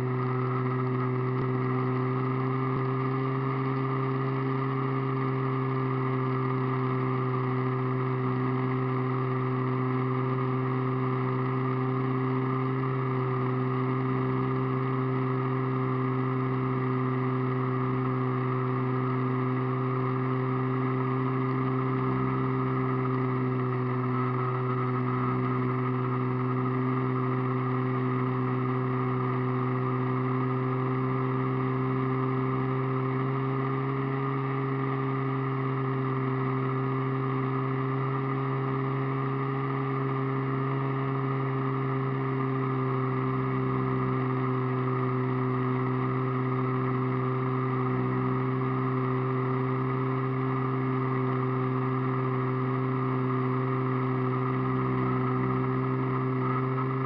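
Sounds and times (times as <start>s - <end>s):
model airplane motor droning: 0.0s - 57.0s.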